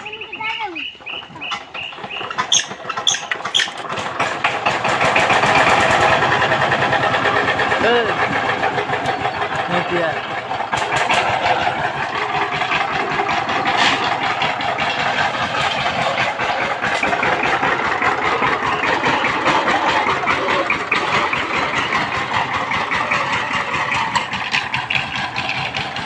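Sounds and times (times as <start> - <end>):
diesel engine chugging: 0.0 - 26.0.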